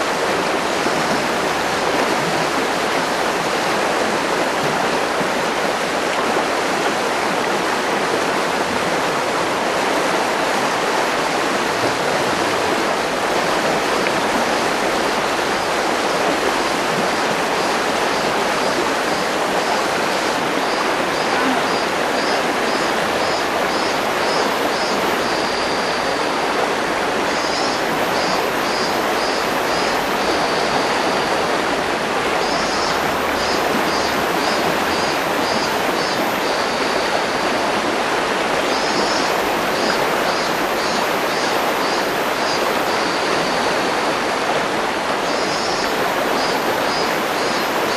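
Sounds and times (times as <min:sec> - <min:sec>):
river flowing over rocks: 0:00.0 - 0:47.9.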